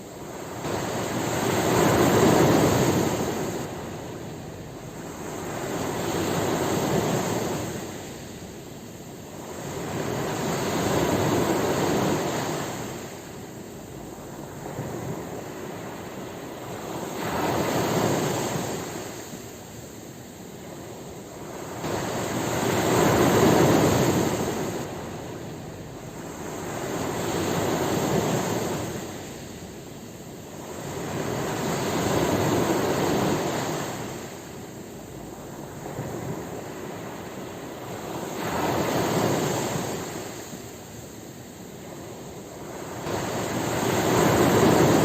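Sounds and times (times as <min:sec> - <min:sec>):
ocean waves surging onto shore: 0:00.0 - 0:45.0.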